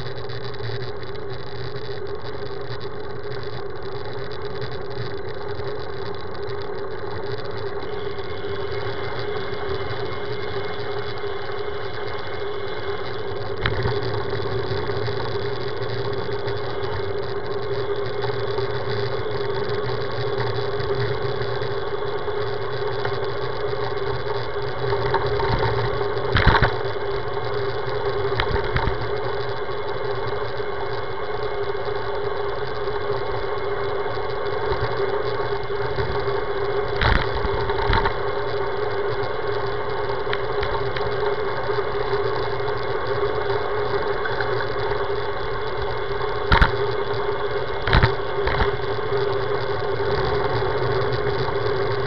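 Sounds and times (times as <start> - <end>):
bike road noise hum: 0.0 - 52.0.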